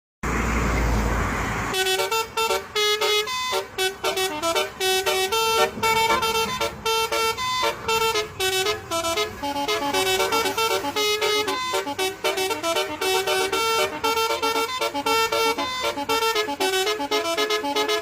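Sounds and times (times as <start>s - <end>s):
multi-tone horn melody: 1.7s - 18.0s.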